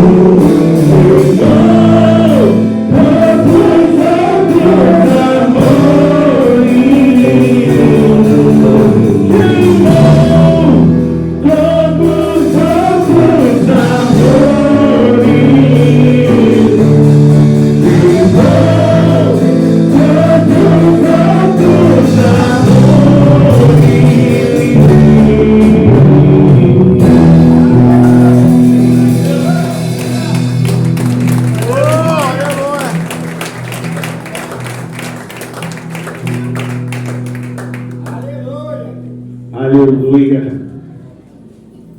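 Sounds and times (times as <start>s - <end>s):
voices singing worship song: 0.0s - 38.1s
instrumental accompaniment: 0.0s - 39.6s.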